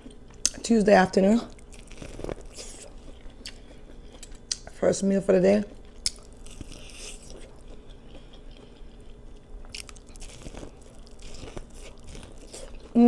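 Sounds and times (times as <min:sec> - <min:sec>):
person chewing corn on the cob: 0:01.5 - 0:04.8, 0:05.8 - 0:13.0.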